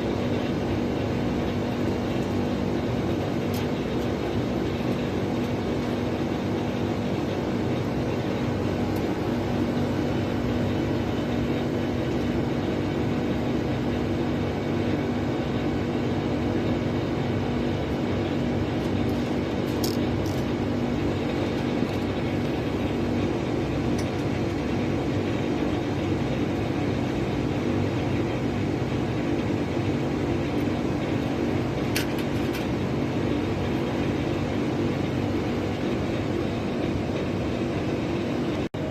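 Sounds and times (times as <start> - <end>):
air conditioner humming: 0.0 - 38.9.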